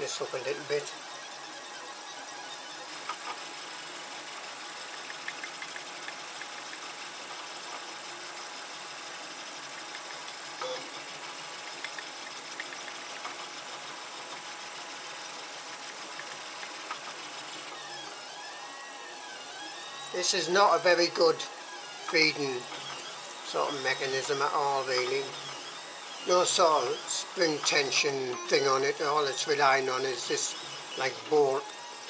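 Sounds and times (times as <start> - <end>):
printer mechanical whirring: 0.0 - 32.0.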